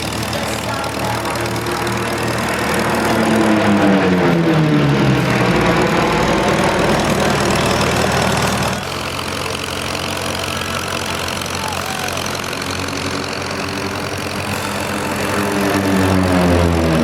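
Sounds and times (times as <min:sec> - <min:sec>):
aircraft engines running loud: 0:00.0 - 0:17.0.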